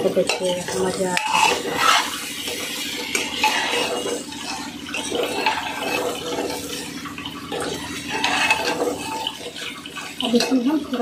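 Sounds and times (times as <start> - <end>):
vegetables frying hiss: 0.0 - 11.0
metal spatula scraping a pot: 0.1 - 11.0.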